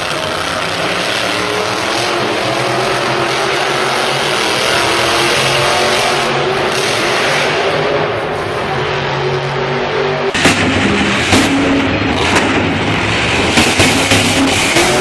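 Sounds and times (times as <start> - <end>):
truck engine at high revs: 0.0 - 15.0.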